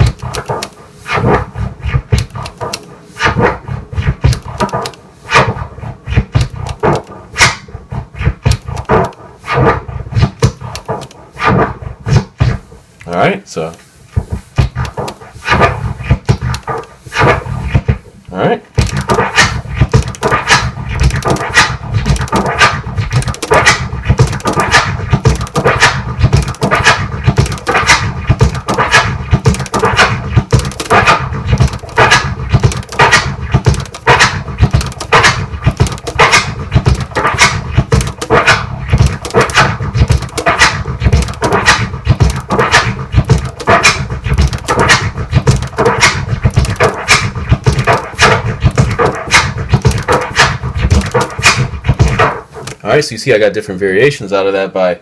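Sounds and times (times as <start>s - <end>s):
turntable scratching drum sample: 0.0s - 12.7s, 14.1s - 18.1s, 18.8s - 53.0s.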